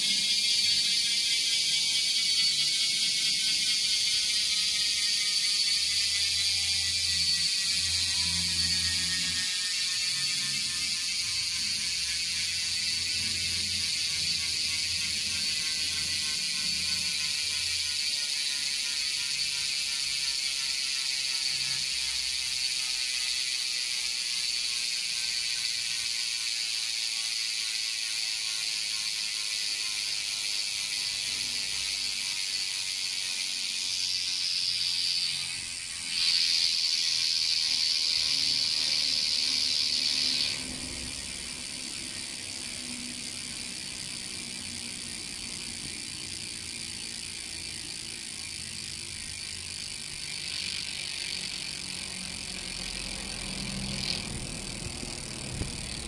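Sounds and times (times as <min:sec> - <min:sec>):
bicycle hub ratcheting buzz: 0:00.0 - 0:56.0.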